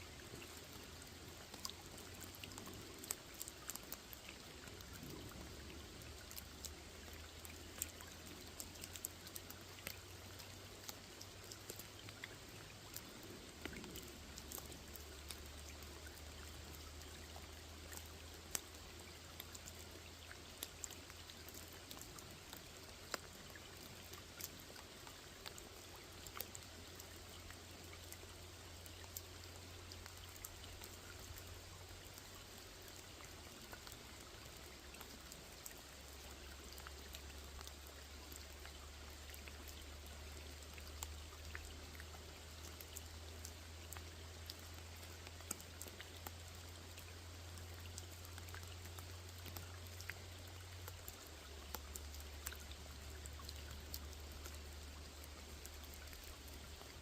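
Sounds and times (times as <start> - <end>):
low steady hum: 0.0 - 57.0
rain falling on a pond: 0.0 - 57.0.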